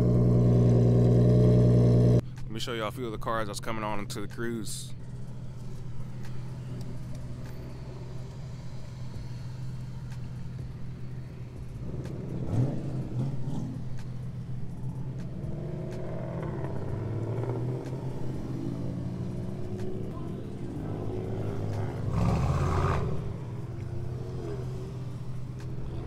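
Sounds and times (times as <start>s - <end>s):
engine revving: 0.0s - 2.2s, 5.0s - 26.0s
low idling drone: 0.0s - 2.5s, 4.8s - 26.0s
cars driving slowly past: 0.0s - 26.0s.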